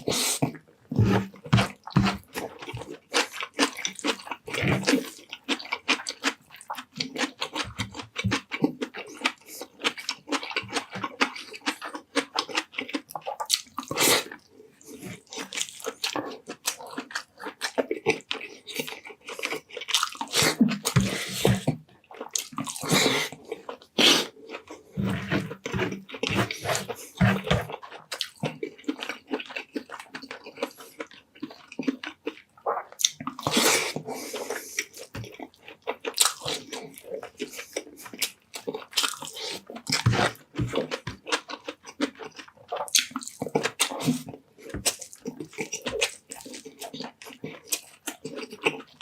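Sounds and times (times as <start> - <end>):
wet chewing and mouth smacks: 0.0 - 49.0.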